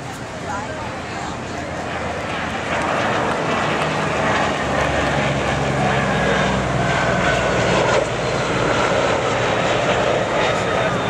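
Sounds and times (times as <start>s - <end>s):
faint high engine whine: 0.0s - 11.0s
jet engines droning: 0.0s - 11.0s.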